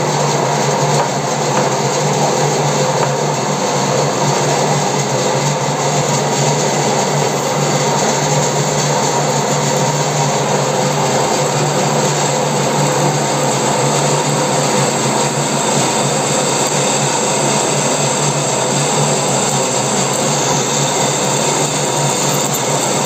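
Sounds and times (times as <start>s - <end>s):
metal lathe drilling steel: 0.0s - 23.0s.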